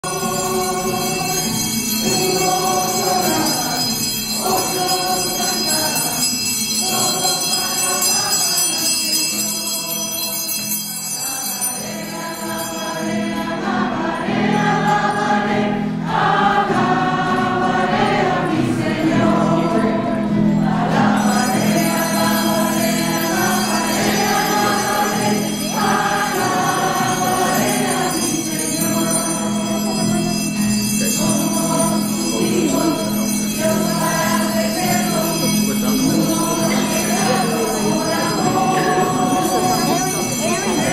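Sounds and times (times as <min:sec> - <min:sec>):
choir singing a hymn: 0:00.0 - 0:30.4, 0:31.0 - 0:40.9
sustained accompaniment: 0:00.0 - 0:40.9.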